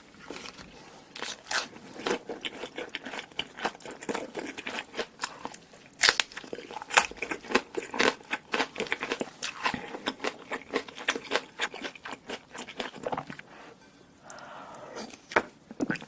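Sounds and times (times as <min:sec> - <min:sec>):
person chewing crunchy food: 0:00.2 - 0:13.5.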